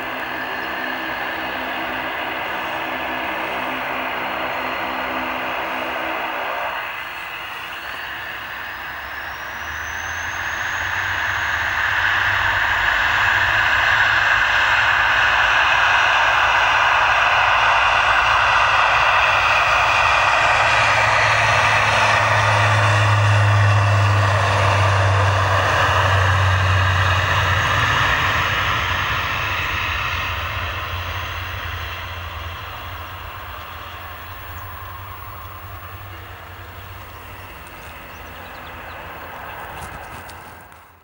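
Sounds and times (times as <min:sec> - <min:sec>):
turboprop airliner taking off: 0:00.0 - 0:41.0.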